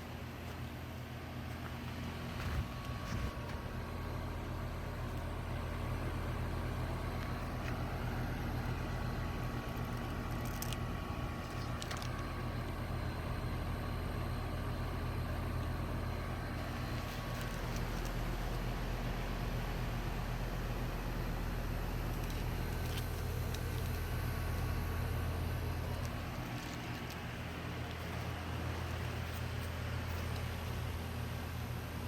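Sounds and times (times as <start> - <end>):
air conditioner humming: 0.0 - 32.0.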